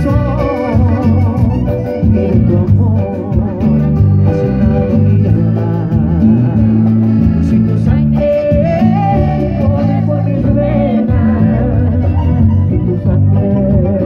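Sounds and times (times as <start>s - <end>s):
live band playing cumbia: 0.0s - 14.0s.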